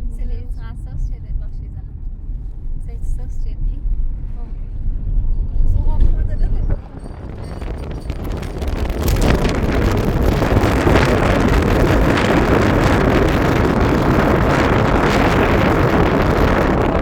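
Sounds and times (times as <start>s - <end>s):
low rumble: 0.0s - 17.0s
wind buffeting the microphone: 0.0s - 17.0s.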